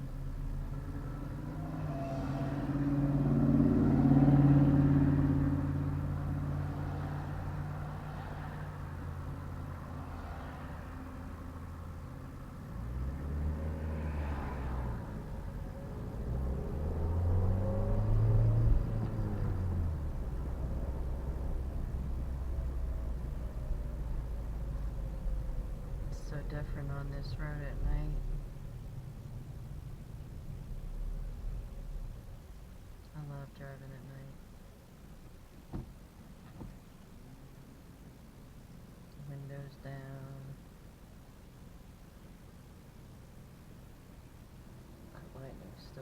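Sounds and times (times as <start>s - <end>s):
car engine: 0.0s - 46.0s
road noise: 0.0s - 46.0s.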